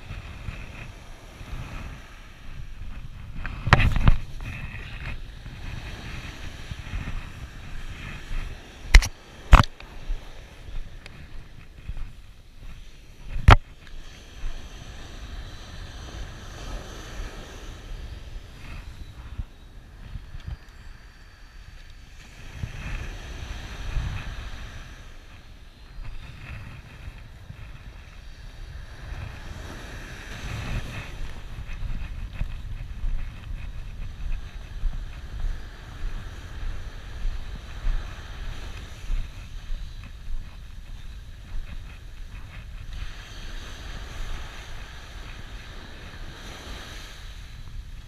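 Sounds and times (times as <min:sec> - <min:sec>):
surf breaking and washing: 0:00.0 - 0:48.0
wind buffeting microphone: 0:00.0 - 0:48.0.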